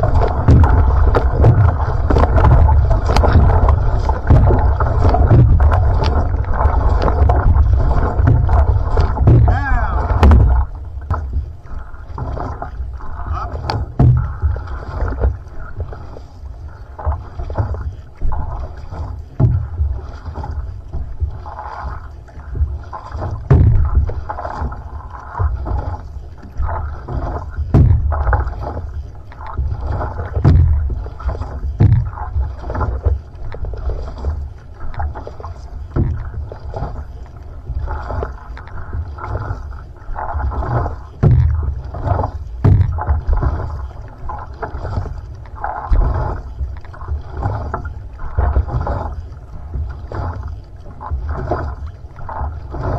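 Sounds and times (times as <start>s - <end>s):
low rumble of water and wind: 0.0s - 52.9s
paddle strokes splashing water: 0.0s - 52.9s.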